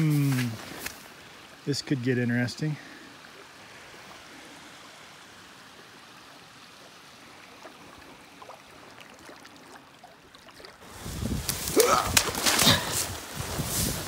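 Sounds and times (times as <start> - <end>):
stream trickling: 0.0 - 14.0.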